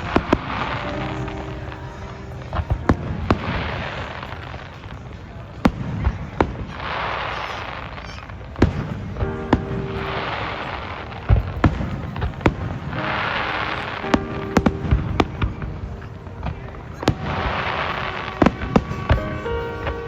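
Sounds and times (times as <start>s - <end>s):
fireworks bangs: 0.0s - 20.0s
fireworks hissing crackle: 0.0s - 20.0s.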